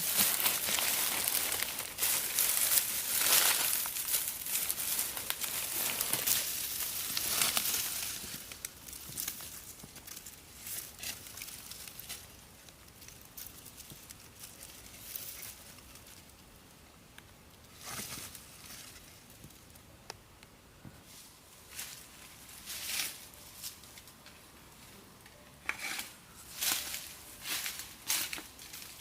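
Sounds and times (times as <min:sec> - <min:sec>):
rustling and crinkling: 0:00.0 - 0:16.5, 0:17.5 - 0:19.8, 0:20.8 - 0:29.0.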